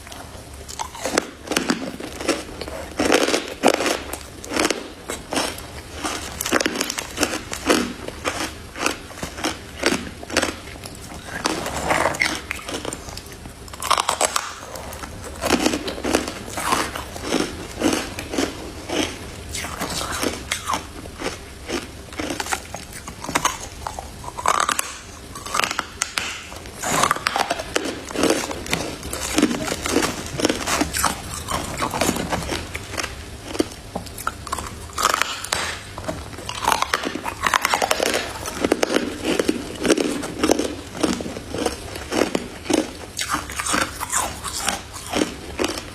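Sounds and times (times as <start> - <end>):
chewing crunchy ice: 0.0 - 45.9.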